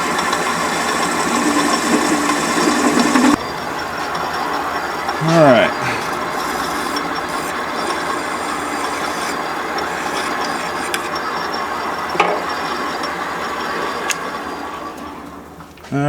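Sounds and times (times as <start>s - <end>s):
metal lathe running: 0.0s - 15.7s.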